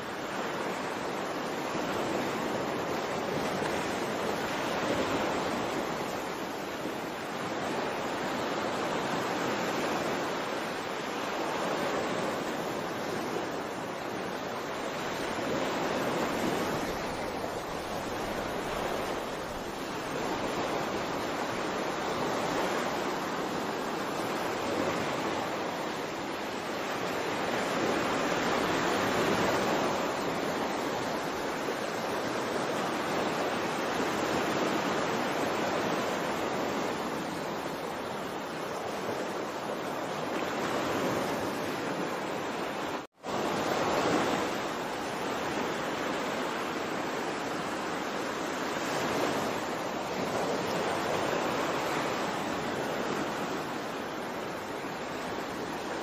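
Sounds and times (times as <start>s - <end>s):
ocean waves rushing: 0.0s - 56.0s.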